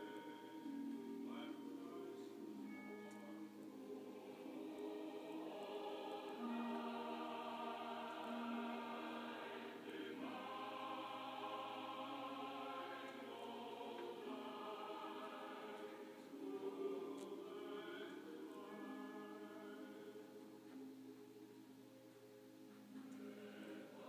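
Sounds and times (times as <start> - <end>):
choir singing sustained chords: 0.0 - 24.0.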